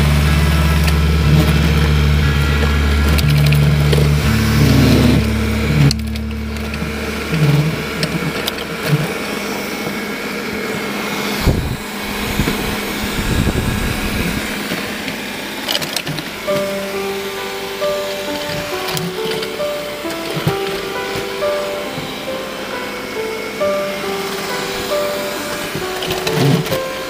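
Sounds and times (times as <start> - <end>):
robot vacuum motor hum: 0.0 - 27.0.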